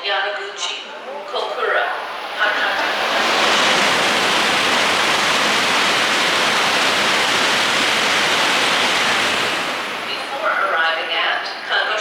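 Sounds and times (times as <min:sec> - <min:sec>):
train rushing into platform: 0:00.0 - 0:12.0.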